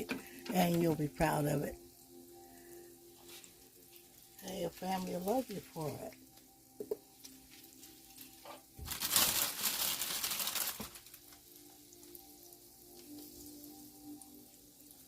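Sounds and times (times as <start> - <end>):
food sizzling on a grill: 0.0 - 15.0.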